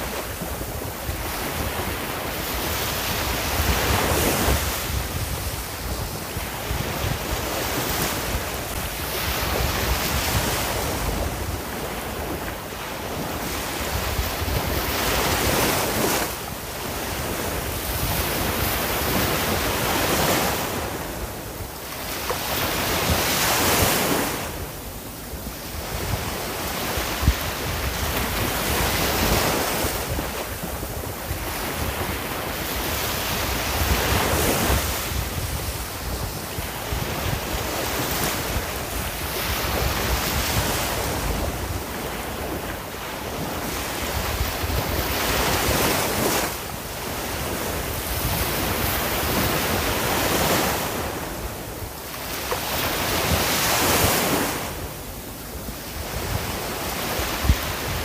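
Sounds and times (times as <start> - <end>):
sea waves breaking on shore: 0.0 - 58.0
wind rumbling on microphone: 0.0 - 58.0.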